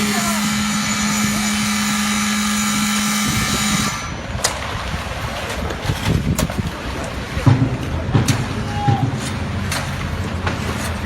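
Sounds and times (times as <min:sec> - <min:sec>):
clattering machine noise: 0:00.0 - 0:11.0
concrete pump machine hum: 0:00.0 - 0:11.0.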